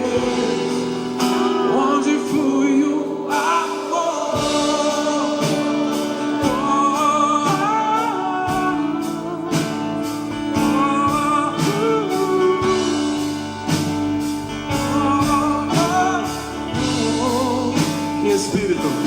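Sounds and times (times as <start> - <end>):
gospel band playing: 0.0 - 19.0
person singing: 0.0 - 19.0
wavering melodic lead line: 0.0 - 19.0.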